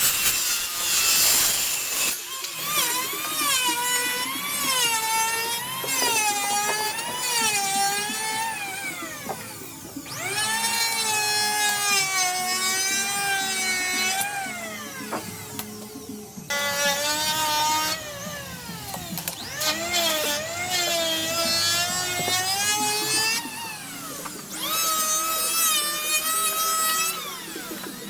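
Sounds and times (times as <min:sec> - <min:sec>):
power tool whining cutting wood: 0:00.0 - 0:28.0.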